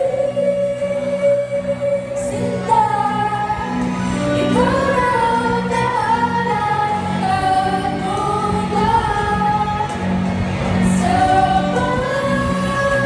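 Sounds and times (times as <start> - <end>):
electric guitars: 0.0 - 13.0
keyboard: 0.0 - 13.0
steady bass line: 0.0 - 13.0
violins: 0.0 - 13.0.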